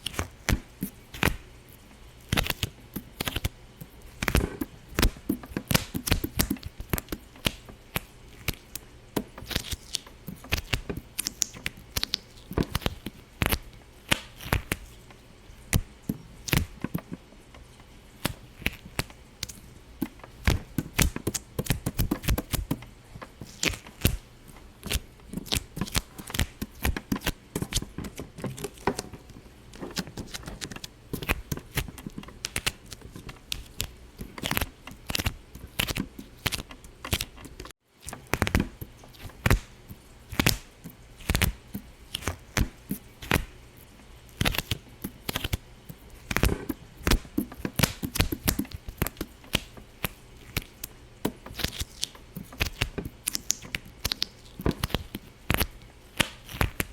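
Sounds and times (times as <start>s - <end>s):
sharp pops and clicks: 4.2s - 14.9s, 15.7s - 24.2s, 24.8s - 43.5s, 44.4s - 56.9s.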